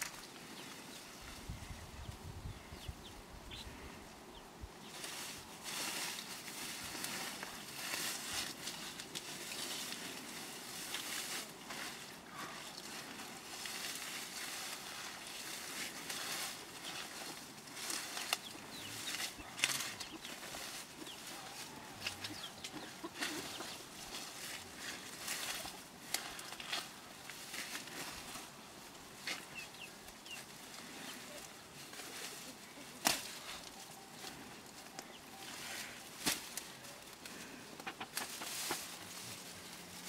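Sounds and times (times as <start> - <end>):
dry grass and dung rustling: 0.0 - 40.0.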